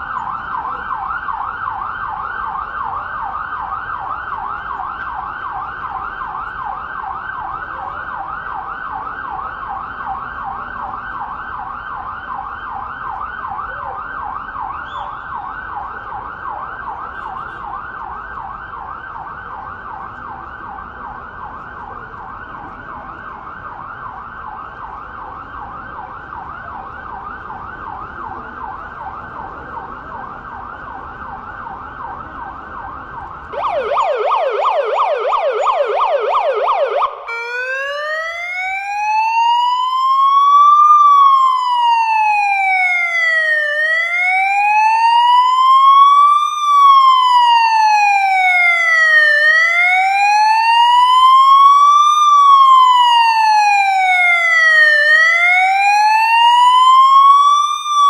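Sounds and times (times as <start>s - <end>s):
lower-reaching siren tone: 0.0s - 58.0s
siren on fast yelp: 0.0s - 58.0s.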